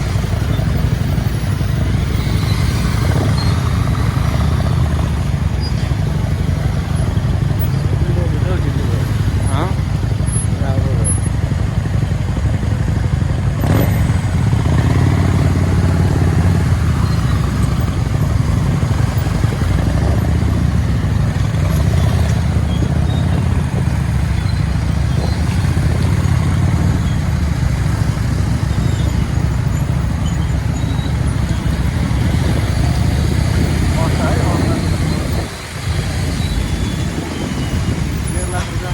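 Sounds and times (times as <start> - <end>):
motorcycle engine rumble: 0.0 - 38.9
road noise: 0.0 - 38.9.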